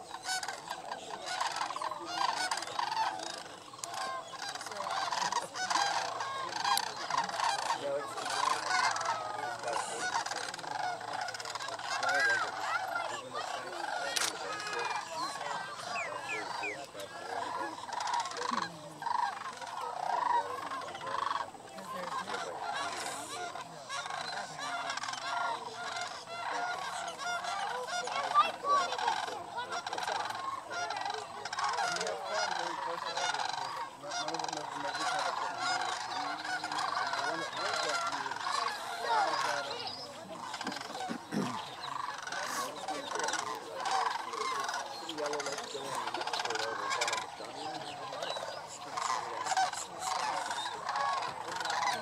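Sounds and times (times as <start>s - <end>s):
flock of cranes calling: 0.0s - 52.0s.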